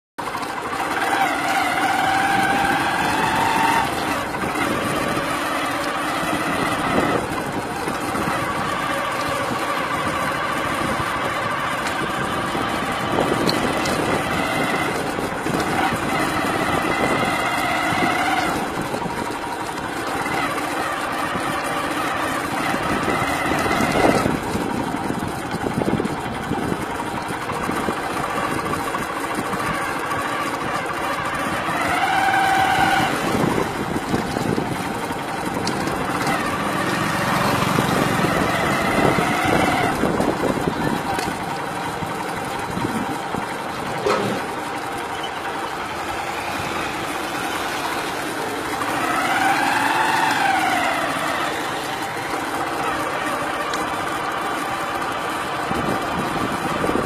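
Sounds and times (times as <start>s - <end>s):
road and wind noise: 0.2s - 57.0s
vehicle engine running: 0.2s - 57.0s.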